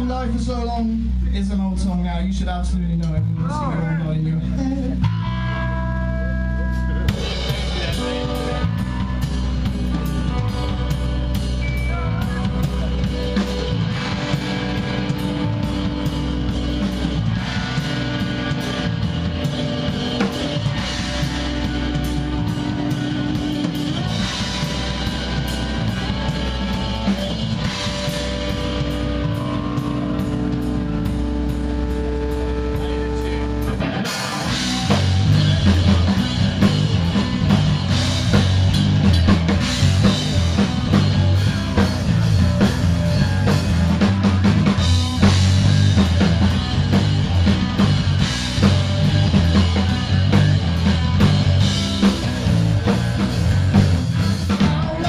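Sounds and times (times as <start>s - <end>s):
live rock band playing: 0.0s - 55.0s
held electric guitar notes: 4.4s - 55.0s.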